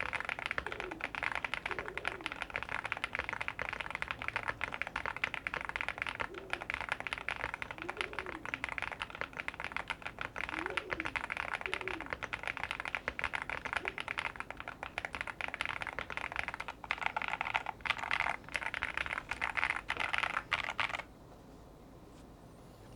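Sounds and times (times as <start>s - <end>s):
mechanical keyboard typing: 0.0s - 21.1s.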